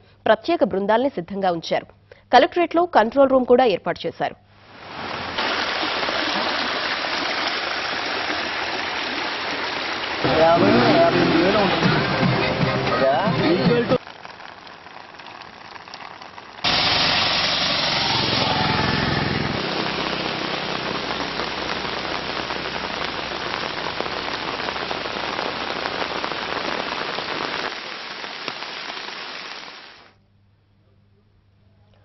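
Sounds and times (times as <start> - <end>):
steady rain: 4.6 - 30.2.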